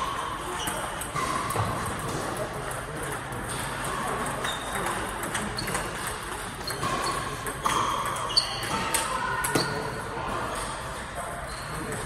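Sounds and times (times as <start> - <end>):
background hubbub: 0.0 - 12.0.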